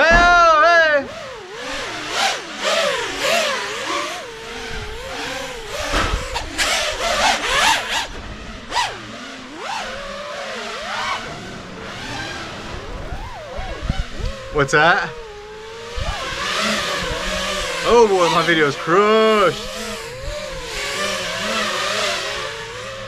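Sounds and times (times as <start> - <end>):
drone motors whining: 0.0 - 23.0
rushing propeller noise: 0.0 - 23.0.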